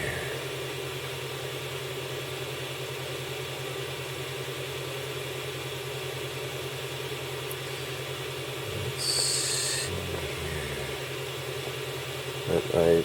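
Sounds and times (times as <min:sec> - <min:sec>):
printer mechanical hum: 0:00.0 - 0:13.0.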